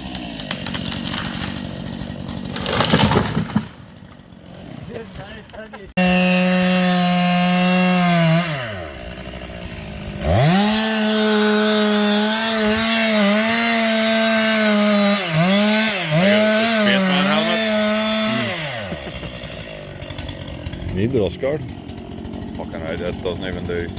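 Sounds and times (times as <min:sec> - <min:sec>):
chainsaw revving and cutting wood: 0:00.0 - 0:23.9.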